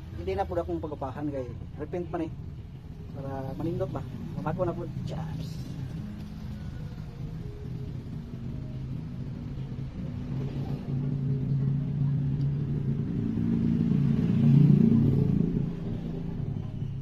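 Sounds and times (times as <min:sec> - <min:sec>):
vehicle engine passing by: 0:00.0 - 0:17.0.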